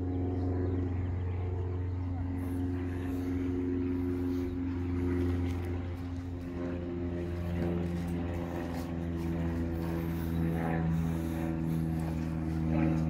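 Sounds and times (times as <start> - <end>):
engine droning hum: 0.0 - 13.0.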